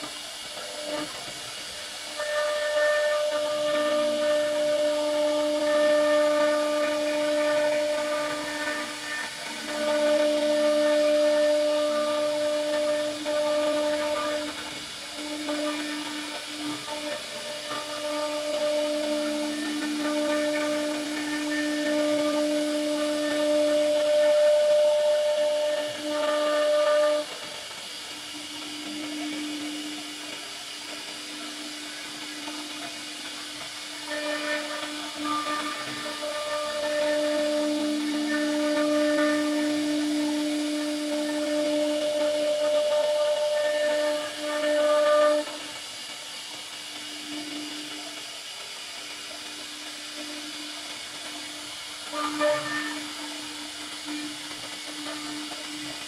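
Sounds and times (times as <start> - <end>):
hiss of wood cutting: 0.0 - 56.0
router spindle whine: 0.0 - 56.0.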